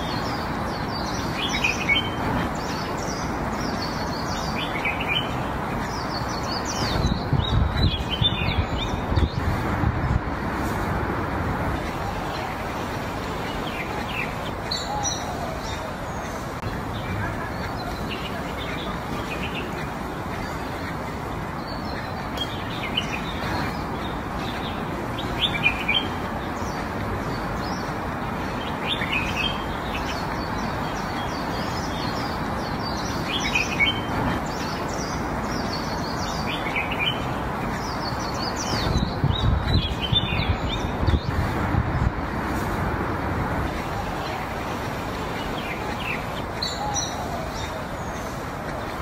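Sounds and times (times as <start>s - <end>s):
small birds chirping: 0.0s - 49.0s
steady background hiss: 0.0s - 49.0s.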